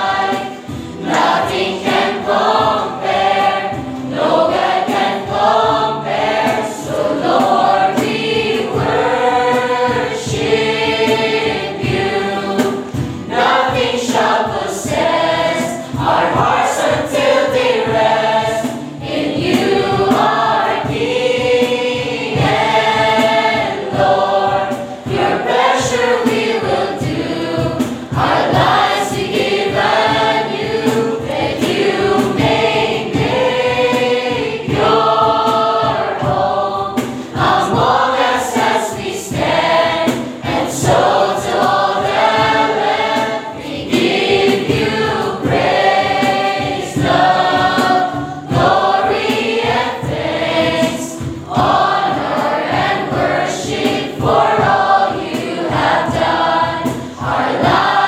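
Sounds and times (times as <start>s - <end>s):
congregation singing: 0.0s - 58.0s.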